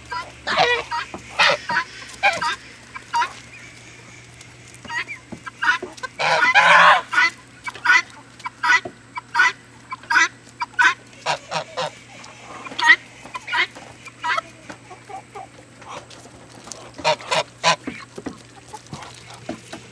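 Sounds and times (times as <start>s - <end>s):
fowl calling: 0.0s - 19.9s.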